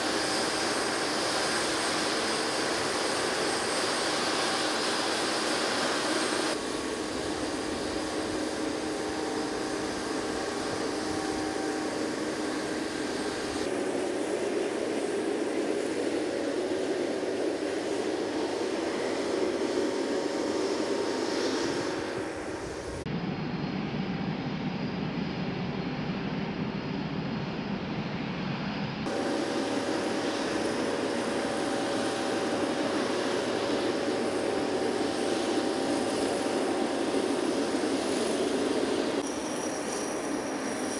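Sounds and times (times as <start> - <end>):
jet engine rumble: 0.0 - 40.9.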